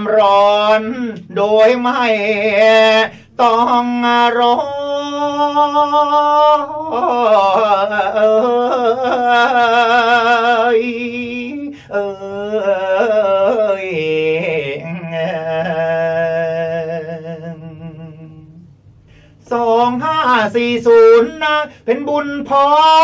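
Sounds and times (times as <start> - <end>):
man singing with wide vibrato: 0.0 - 23.0.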